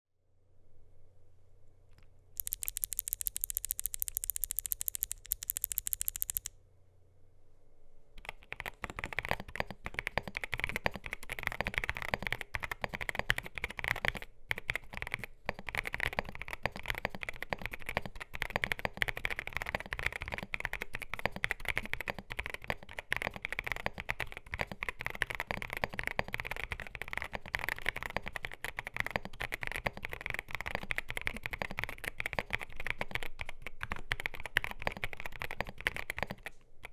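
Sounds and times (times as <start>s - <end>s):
mechanical keyboard typing: 2.4s - 6.5s, 8.2s - 36.9s
sharp rapid clicking: 2.4s - 6.5s, 8.2s - 36.9s.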